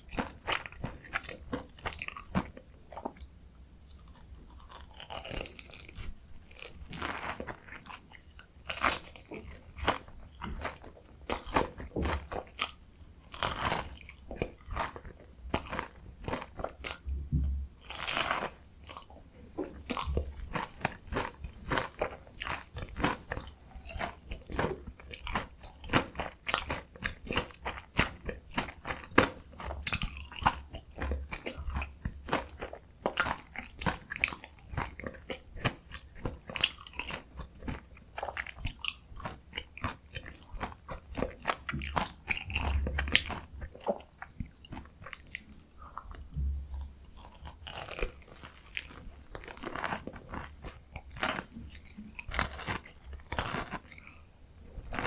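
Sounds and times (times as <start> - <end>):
crunchy biting and chewing: 0.0 - 55.0.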